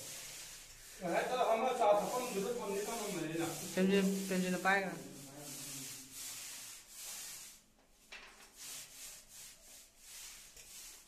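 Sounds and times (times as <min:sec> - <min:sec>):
hand tool rubbing against wall: 0:00.0 - 0:11.0.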